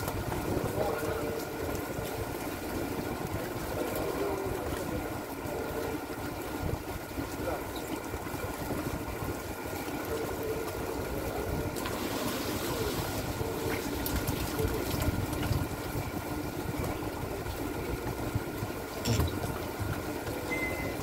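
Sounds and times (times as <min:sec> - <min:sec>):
boat engine rumbling: 0:00.0 - 0:21.0
water at the hull: 0:00.0 - 0:21.0.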